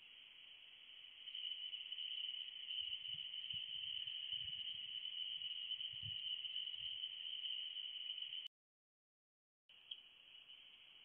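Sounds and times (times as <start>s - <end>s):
high-pitched insect trill: 0.0s - 8.5s, 9.8s - 11.0s.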